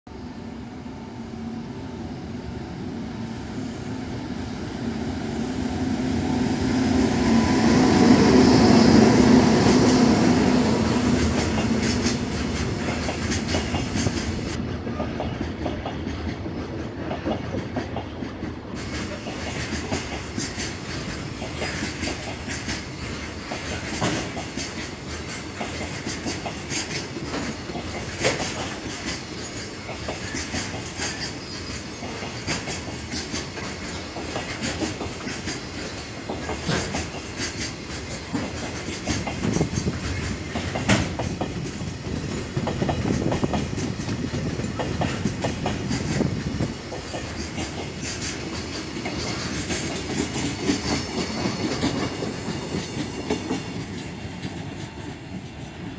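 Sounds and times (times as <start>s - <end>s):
electric locomotive hum: 0.1s - 55.9s
train wheels clacking over rail joints: 8.5s - 55.9s.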